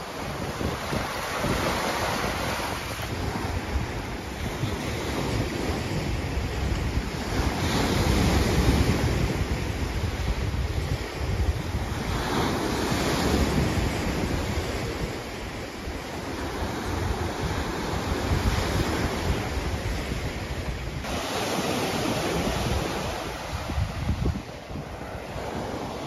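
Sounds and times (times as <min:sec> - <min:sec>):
waves breaking on beach: 0:00.0 - 0:26.0
wind rumbling on microphone: 0:00.0 - 0:26.0.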